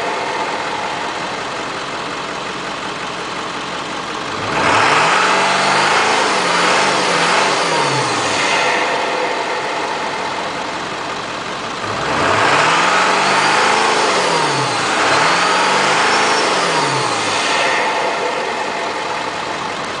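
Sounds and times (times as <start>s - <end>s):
diesel engine idling and revving: 0.0s - 20.0s.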